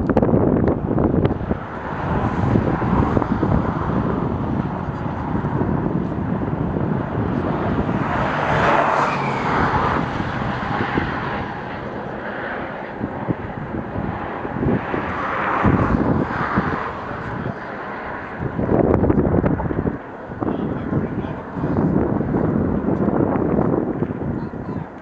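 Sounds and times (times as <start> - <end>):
outdoor background noise: 0.0 - 25.0
wind buffeting the microphone: 0.0 - 25.0.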